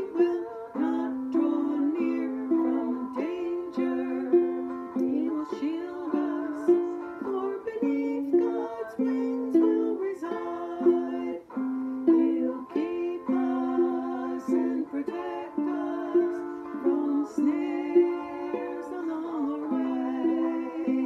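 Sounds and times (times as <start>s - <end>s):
ukulele strumming: 0.0s - 21.0s
woman singing: 0.0s - 21.0s.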